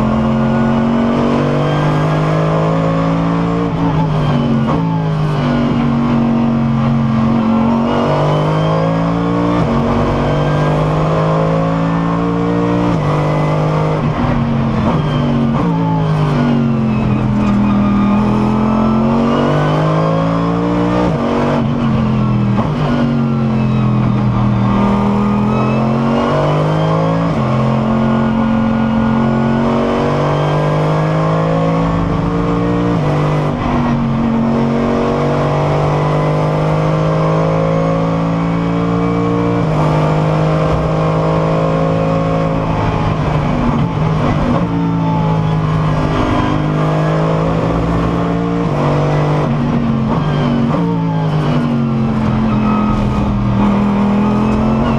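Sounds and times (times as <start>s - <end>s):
race car engine shifting gears: 0.0s - 54.9s.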